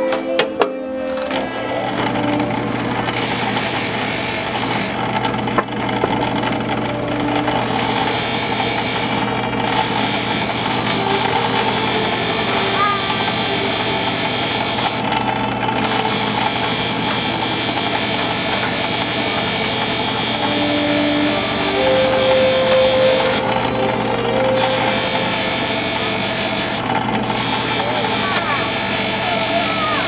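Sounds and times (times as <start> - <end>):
drill press motor hum: 1.2 - 30.0.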